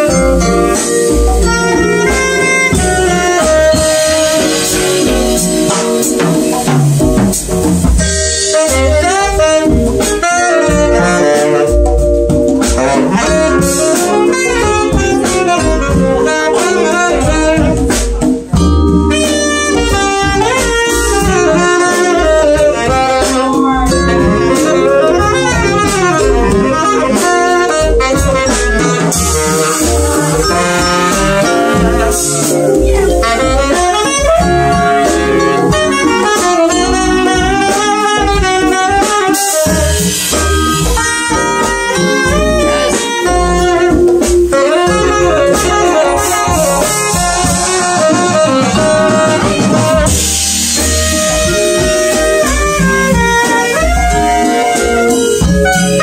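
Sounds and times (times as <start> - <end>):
jazz combo playing: 0.0 - 56.0
saxophone melody: 0.0 - 56.0.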